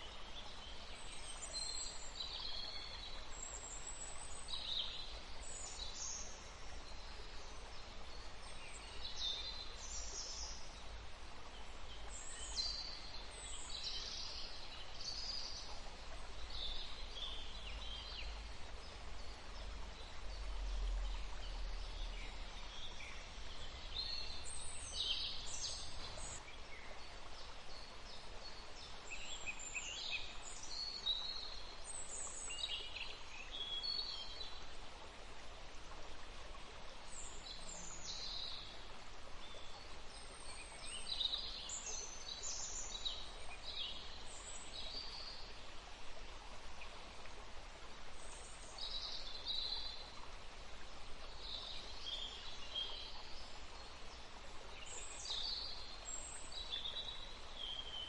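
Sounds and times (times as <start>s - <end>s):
songbirds chirping: 0.0s - 58.0s
steady background hiss: 0.0s - 58.0s.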